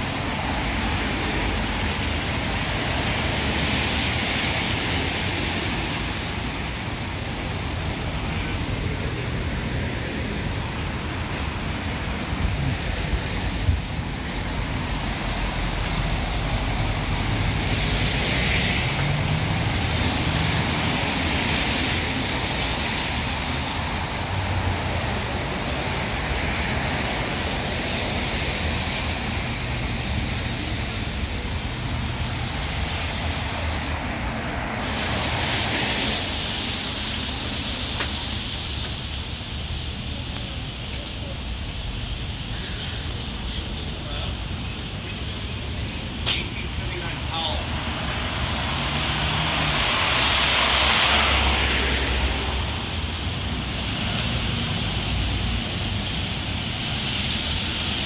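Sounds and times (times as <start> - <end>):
traffic rumble with tyre hiss: 0.0 - 58.0.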